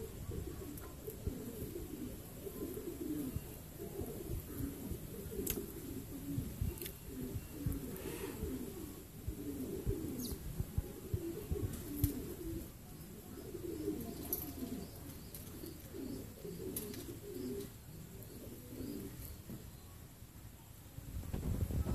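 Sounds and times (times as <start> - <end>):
dove cooing: 0.0 - 19.6.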